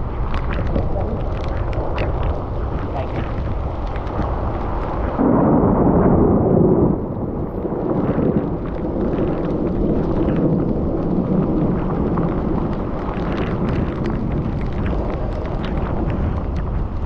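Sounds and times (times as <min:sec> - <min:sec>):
deep rumble: 0:00.0 - 0:17.0
rain taps: 0:00.0 - 0:17.0
wind noise: 0:00.0 - 0:17.0.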